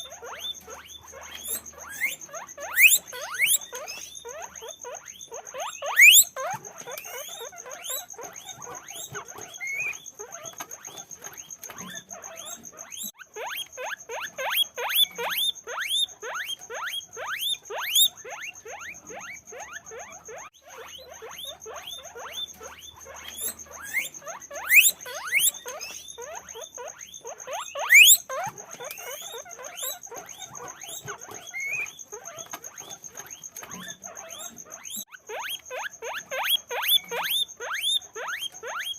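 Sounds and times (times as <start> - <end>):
guinea pigs squeaking: 0.0 - 38.9.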